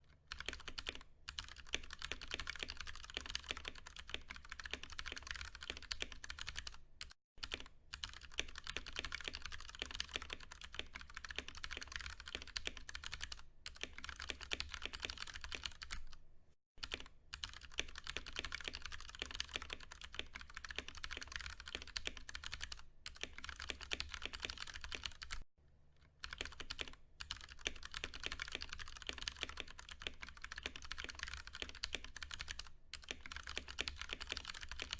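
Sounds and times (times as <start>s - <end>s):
fast mechanical keyboard typing: 0.2s - 16.2s, 16.8s - 25.4s, 26.2s - 34.9s.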